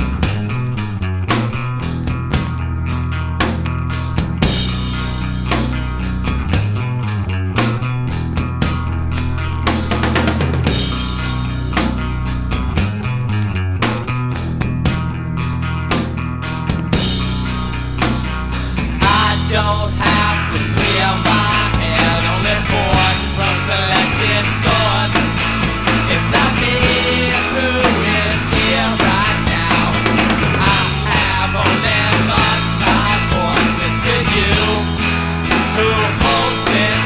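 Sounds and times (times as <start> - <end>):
loud rock band with guitars: 0.0 - 37.0.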